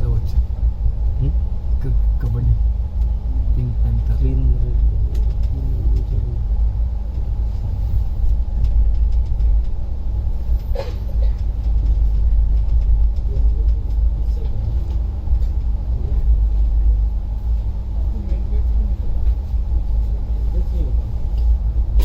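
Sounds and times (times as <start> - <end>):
engine drone: 0.0 - 22.0
road rumble: 0.0 - 22.0.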